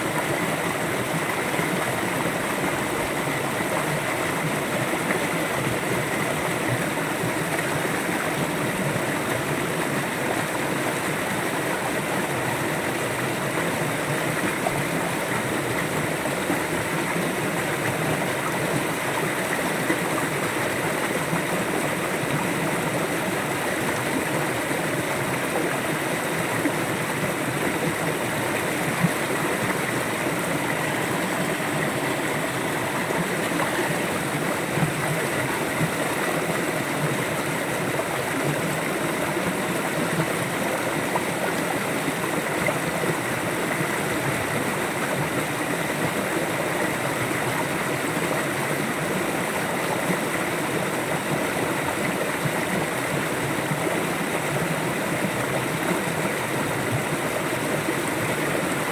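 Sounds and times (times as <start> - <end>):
river flowing: 0.0 - 58.9.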